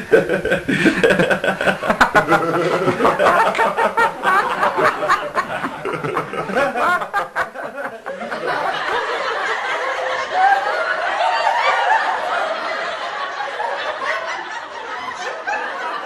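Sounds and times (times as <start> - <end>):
crowd laughing: 0.0 - 16.0.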